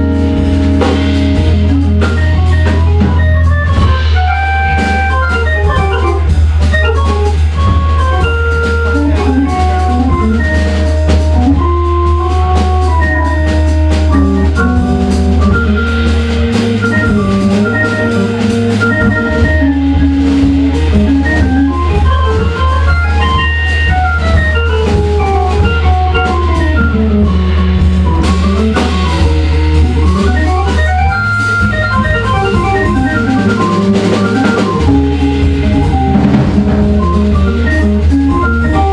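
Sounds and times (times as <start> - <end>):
drums and cymbals: 0.0 - 38.9
organ melody: 0.0 - 38.9.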